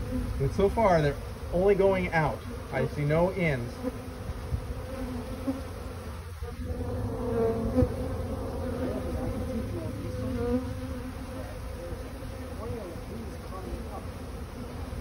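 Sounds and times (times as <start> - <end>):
bees humming: 0.0 - 15.0
single bee buzzing past: 0.0 - 15.0.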